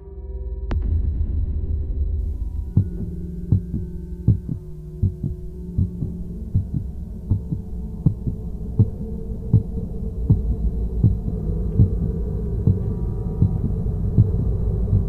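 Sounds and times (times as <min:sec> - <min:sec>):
low steady drone: 0:00.0 - 0:15.0
heartbeat double thump: 0:02.2 - 0:15.0.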